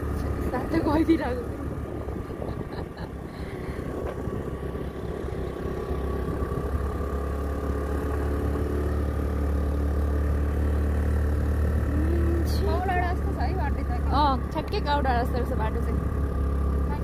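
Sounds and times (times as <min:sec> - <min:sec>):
motorbike engine running: 0:00.0 - 0:17.0
road noise: 0:00.0 - 0:17.0.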